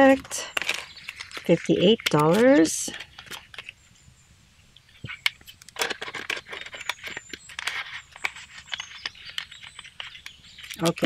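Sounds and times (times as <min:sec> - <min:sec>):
banknotes and plastic rustling: 0:00.0 - 0:03.8, 0:05.0 - 0:11.0.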